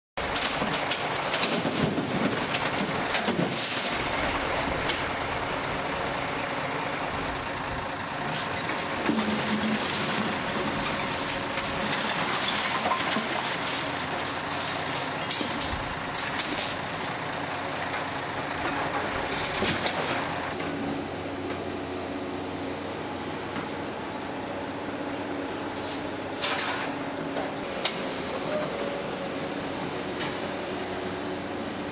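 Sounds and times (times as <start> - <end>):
heavy diesel machinery running: 0.2 - 31.9.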